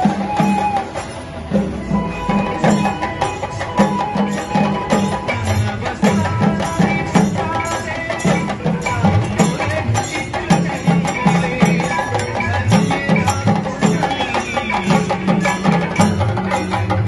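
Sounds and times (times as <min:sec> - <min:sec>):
procession music with drums: 0:00.0 - 0:17.0.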